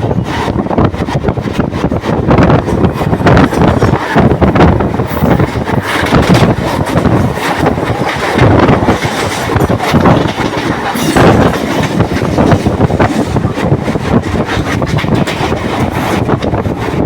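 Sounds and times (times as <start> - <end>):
train rumbling: 0.0 - 17.0
wheels clattering over rails: 0.5 - 17.0.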